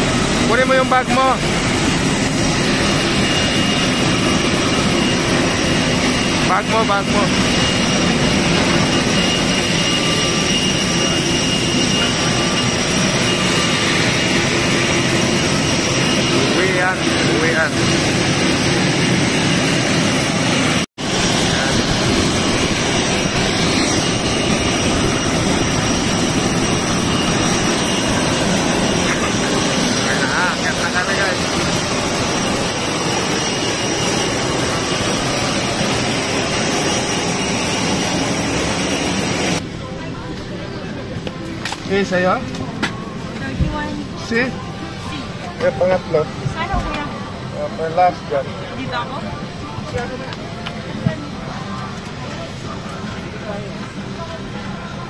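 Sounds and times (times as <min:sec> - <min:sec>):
aircraft turbine engines running: 0:00.0 - 0:55.0.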